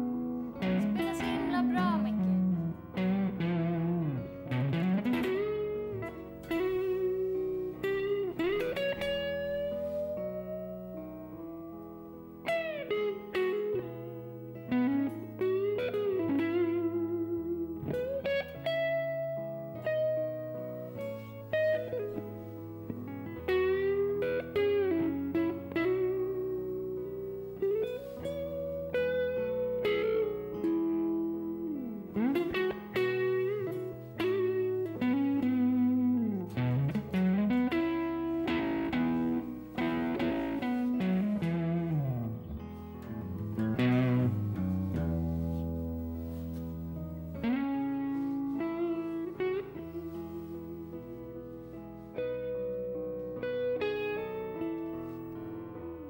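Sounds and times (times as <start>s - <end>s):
electric guitar slow melody: 0.0s - 56.0s
low held notes: 0.0s - 56.0s.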